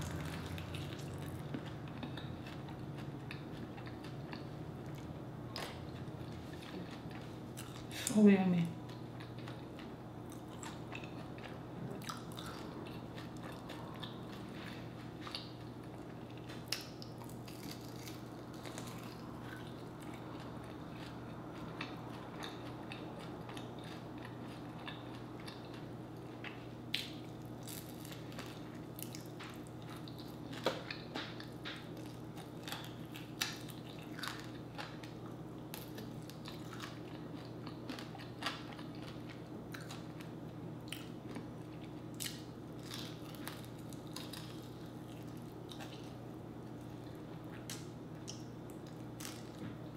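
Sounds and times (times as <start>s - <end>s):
person chewing crunchy food: 0.0s - 8.0s, 8.8s - 49.9s
steady low hum: 0.0s - 49.9s.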